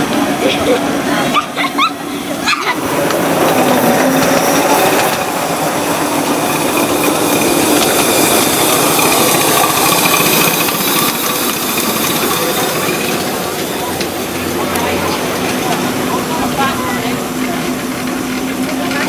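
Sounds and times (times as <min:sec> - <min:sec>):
miniature locomotive whine: 0:00.0 - 0:19.0
small wheels rattling on rails: 0:00.0 - 0:19.0.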